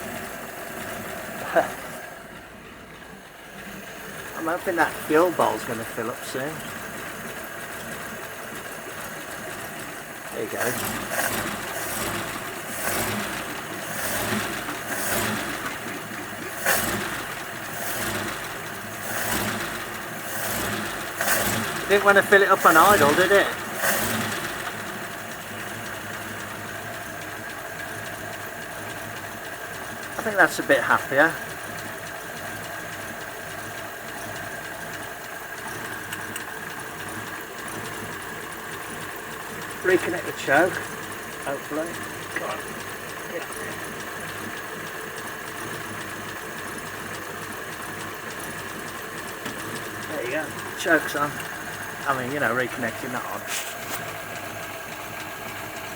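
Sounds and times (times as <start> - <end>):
pickup engine revving: 0.0 - 55.9.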